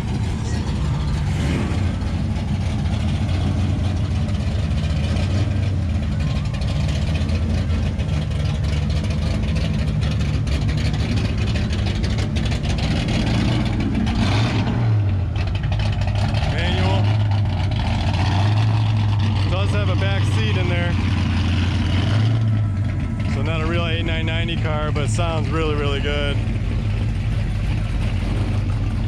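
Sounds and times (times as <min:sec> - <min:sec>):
car engine running low: 0:00.0 - 0:29.0.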